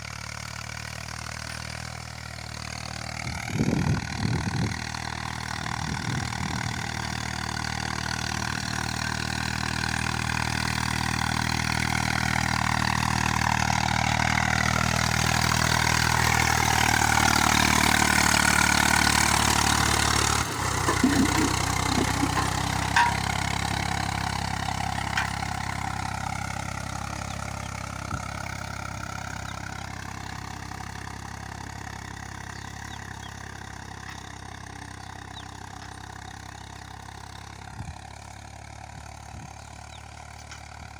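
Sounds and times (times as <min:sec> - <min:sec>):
tractor diesel engine running: 0:00.0 - 0:40.9
engine knocks: 0:02.6 - 0:40.9.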